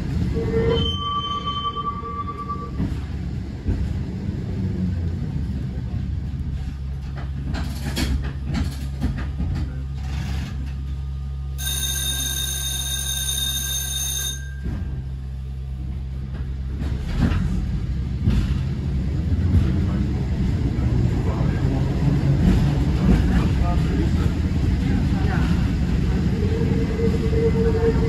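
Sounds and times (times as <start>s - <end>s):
tram electrical hum: 0.0s - 28.0s
tram wheels rumbling on rails: 0.0s - 28.0s.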